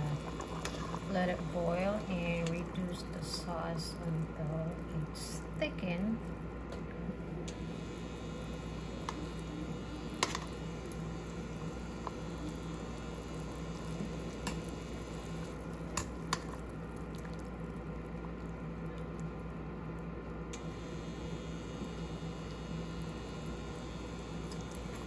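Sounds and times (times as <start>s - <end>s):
sauce bubbling in a pan: 0.0s - 25.0s.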